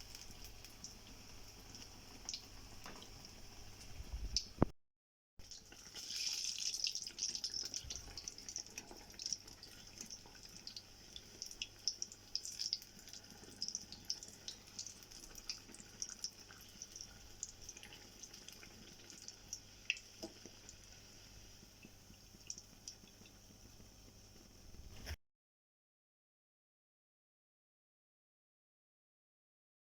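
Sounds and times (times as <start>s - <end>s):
food deep-frying in hot oil: 0.0s - 4.7s, 5.4s - 25.2s.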